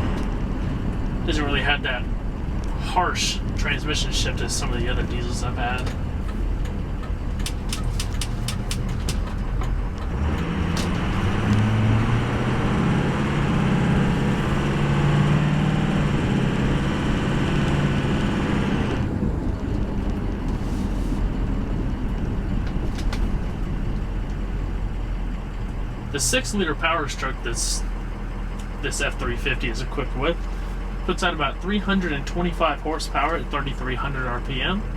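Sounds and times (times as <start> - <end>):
diesel truck engine accelerating: 0.0 - 34.9.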